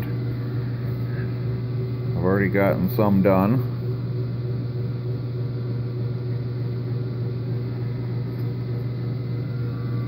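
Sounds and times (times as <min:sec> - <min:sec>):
low electric motor hum: 0:00.0 - 0:10.0.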